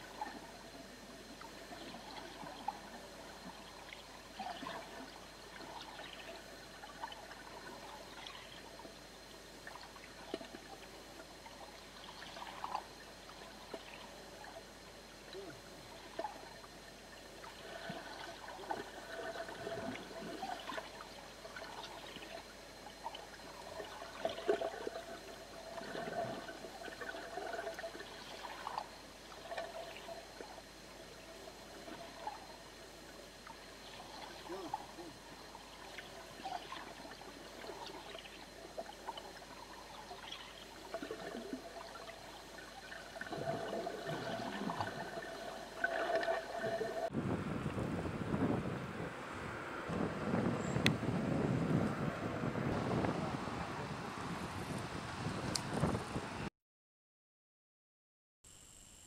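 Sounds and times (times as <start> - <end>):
underwater trickling and gurgling: 0.0 - 48.6.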